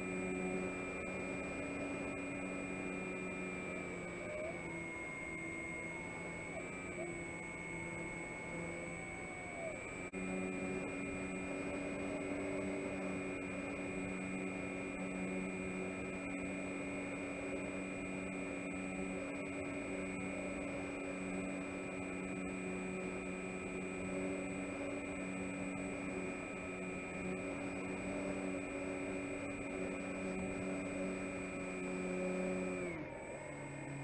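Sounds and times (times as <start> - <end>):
model plane motor whirring: 0.0 - 34.0.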